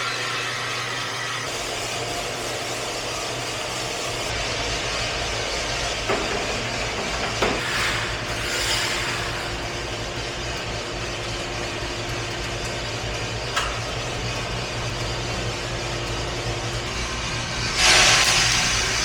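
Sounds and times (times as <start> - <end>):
coffee roaster motor and fan hum: 0.0 - 19.0.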